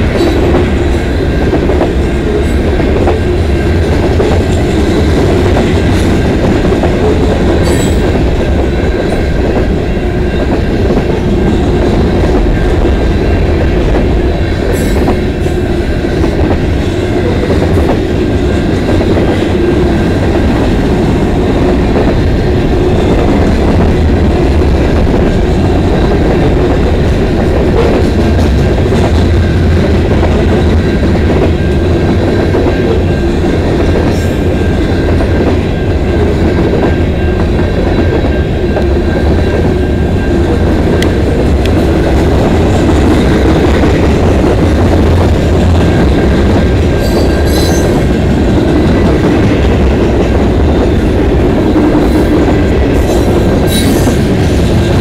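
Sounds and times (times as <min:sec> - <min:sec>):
freight train cars rumbling: 0:00.0 - 0:55.0.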